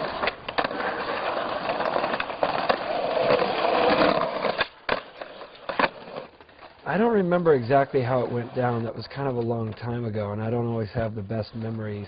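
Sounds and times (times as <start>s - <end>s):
skateboard clacks: 0.0s - 11.8s
skateboard wheels rolling on concrete: 0.0s - 12.0s.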